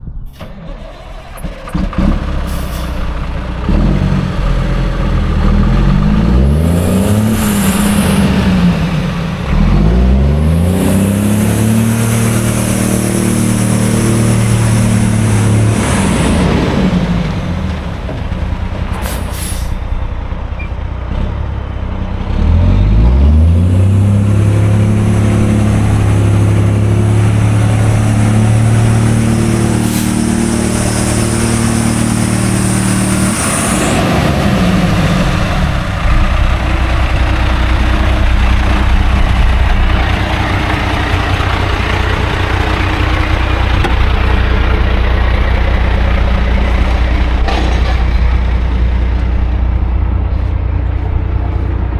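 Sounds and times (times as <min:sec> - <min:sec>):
truck engine revving and idling: 0:00.0 - 0:51.9.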